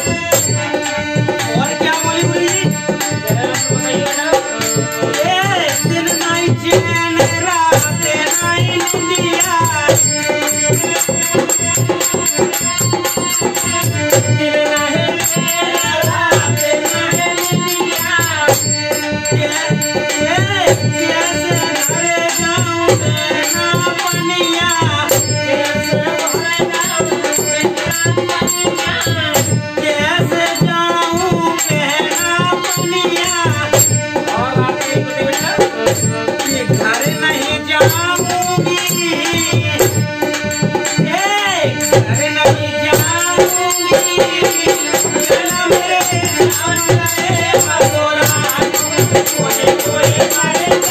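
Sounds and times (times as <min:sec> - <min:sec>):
hand drum beating fast rhythm: 0:00.0 - 0:50.9
harmonium chords: 0:00.0 - 0:50.9
men singing: 0:00.0 - 0:50.9.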